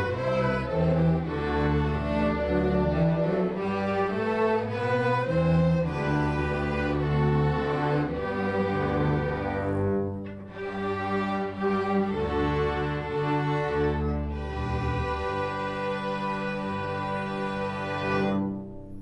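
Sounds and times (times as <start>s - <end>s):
low cellos and basses: 0.0s - 19.0s
violins playing: 0.0s - 19.0s.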